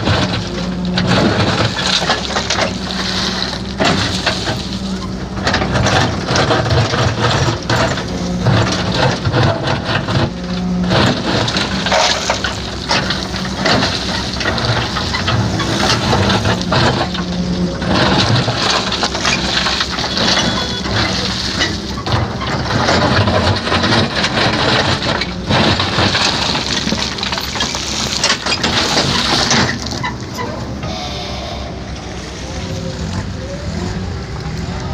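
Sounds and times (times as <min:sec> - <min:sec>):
diesel construction machine engine: 0:00.0 - 0:34.9.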